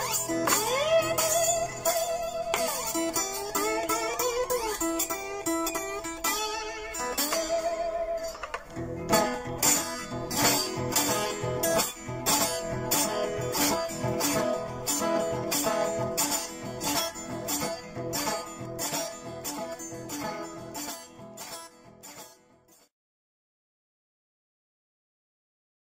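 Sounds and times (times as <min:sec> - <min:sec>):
blues guitar music: 0:00.0 - 0:22.8.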